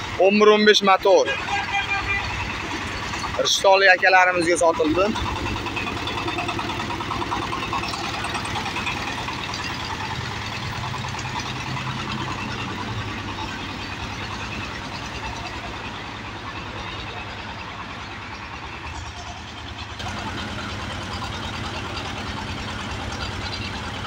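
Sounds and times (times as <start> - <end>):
tractor engine knocking: 0.0 - 24.0.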